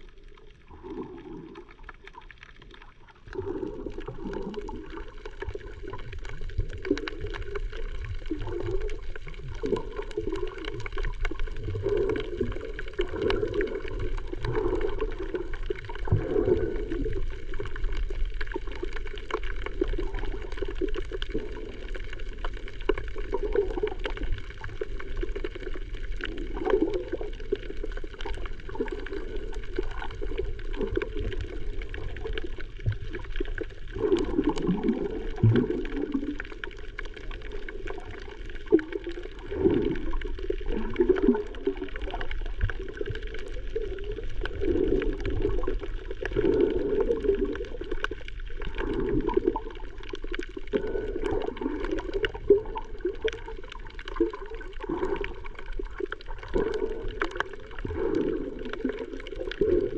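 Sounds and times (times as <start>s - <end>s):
sea water gurgling and sloshing: 0.0s - 59.9s.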